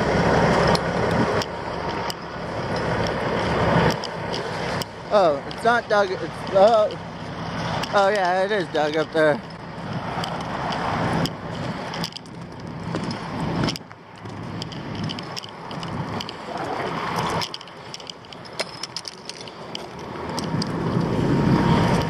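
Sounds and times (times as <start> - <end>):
heavy machinery engines: 0.0 - 22.0
sharp clicks and knocks: 0.5 - 21.2.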